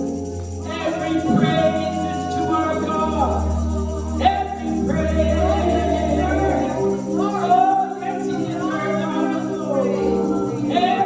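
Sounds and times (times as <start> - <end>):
gospel singing with instruments: 0.0 - 11.0
steady bass line: 0.0 - 11.0.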